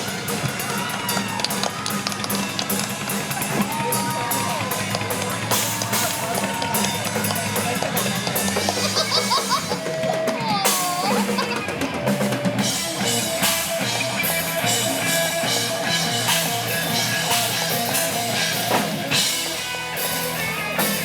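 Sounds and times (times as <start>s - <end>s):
rock music with drums and guitar: 0.0s - 21.0s.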